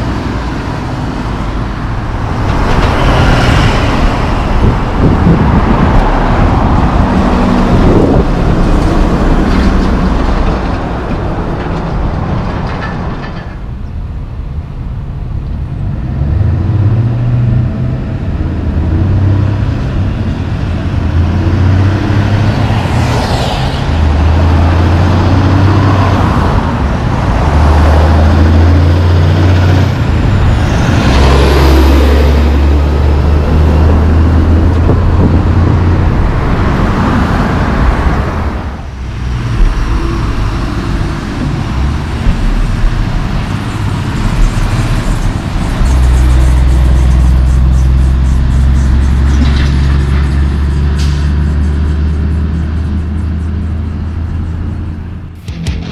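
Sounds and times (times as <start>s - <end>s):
truck diesel engine passing: 0.0s - 13.1s, 14.0s - 55.9s.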